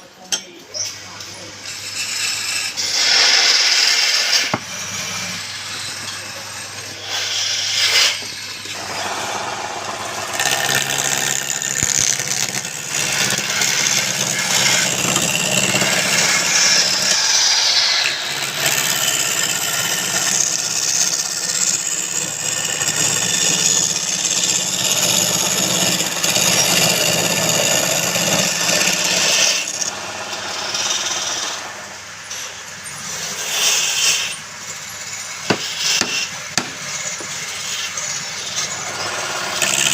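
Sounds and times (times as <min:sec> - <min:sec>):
lathe motor hum: 0:01.4 - 0:39.9
cutting tool rasping on wood: 0:01.7 - 0:30.0, 0:35.4 - 0:39.9.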